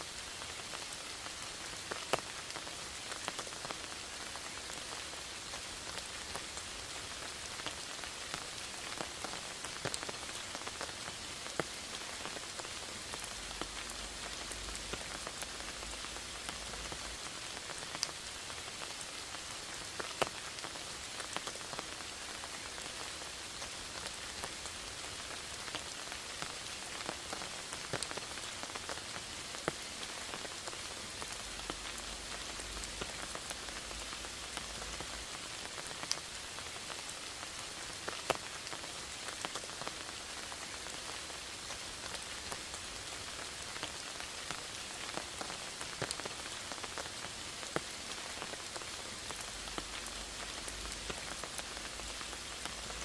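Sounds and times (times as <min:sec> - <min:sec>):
rain on foliage: 0:00.0 - 0:53.0.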